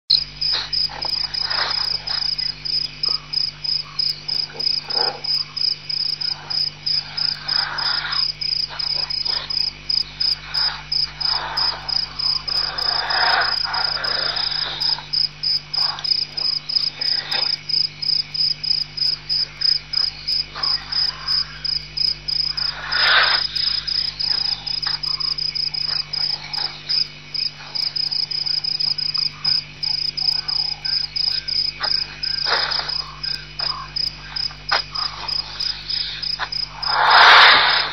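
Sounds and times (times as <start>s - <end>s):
crickets chirping: 0.1s - 37.9s.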